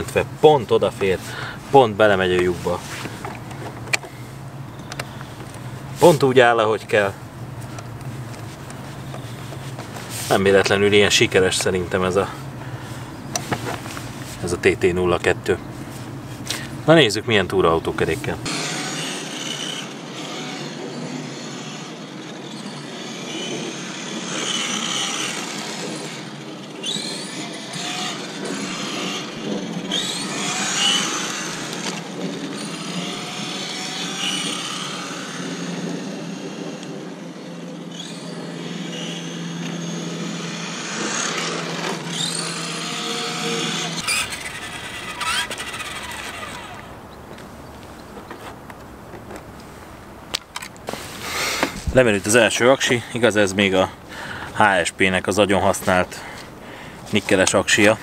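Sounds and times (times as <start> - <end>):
toy car motor whining: 0.0 - 47.1, 50.6 - 58.0
outdoor background: 0.0 - 58.0
tyre noise on asphalt: 0.0 - 58.0.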